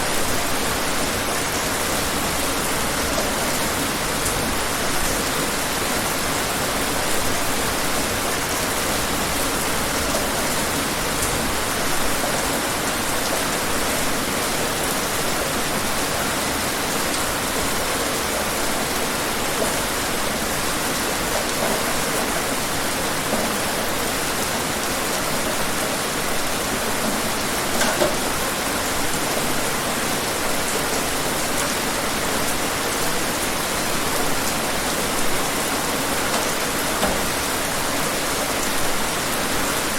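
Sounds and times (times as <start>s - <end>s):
rain drops hitting: 0.0s - 39.9s
steady rain hiss: 0.0s - 39.9s.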